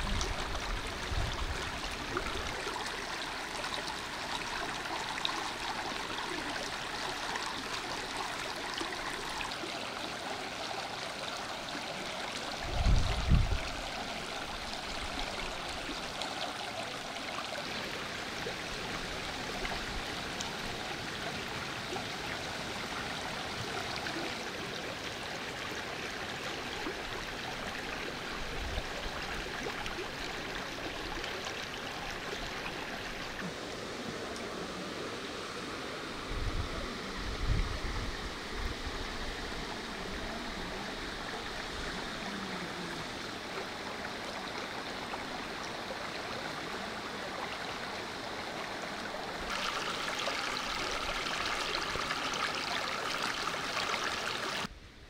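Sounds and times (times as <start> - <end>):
stream water running: 0.0 - 54.8.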